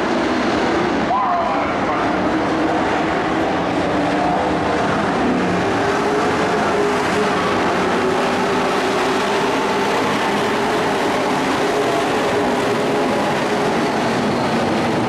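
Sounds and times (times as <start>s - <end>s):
race truck engines droning: 0.0s - 15.0s.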